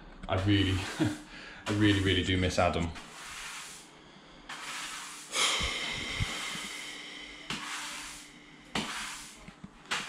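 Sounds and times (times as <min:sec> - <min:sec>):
mop swishing on tiled floor: 0:00.4 - 0:10.0.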